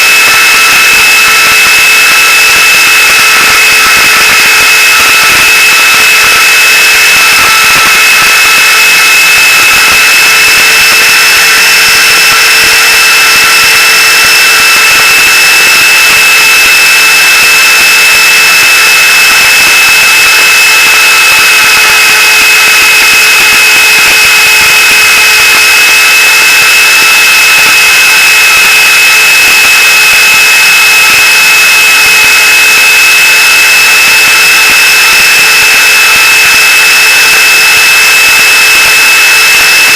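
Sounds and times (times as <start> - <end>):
high-pitched motor whine: 0.0 - 39.9.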